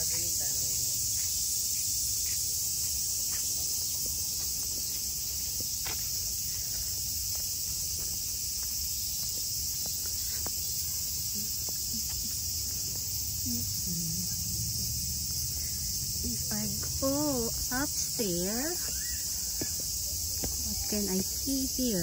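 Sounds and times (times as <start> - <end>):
cicadas droning: 0.0 - 22.0
faint footsteps on a path: 0.0 - 22.0.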